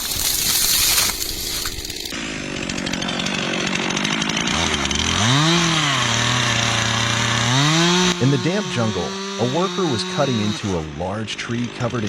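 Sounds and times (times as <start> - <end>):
chainsaw running: 0.0 - 12.0.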